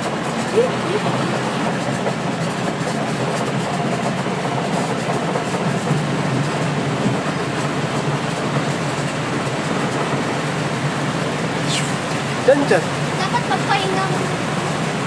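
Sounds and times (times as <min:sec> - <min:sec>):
small boat engine droning: 0:00.0 - 0:15.0.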